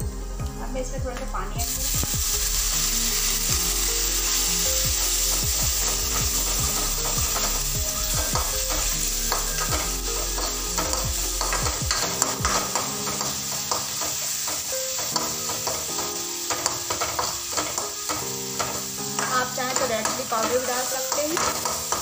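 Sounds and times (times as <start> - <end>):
masala sizzling in a pan: 1.3 - 22.0
stirring scraping against pan: 1.7 - 22.0.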